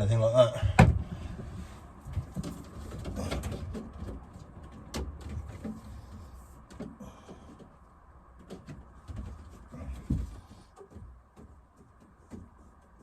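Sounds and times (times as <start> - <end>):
plastic pipes clicking and rustling: 0.7 - 13.0.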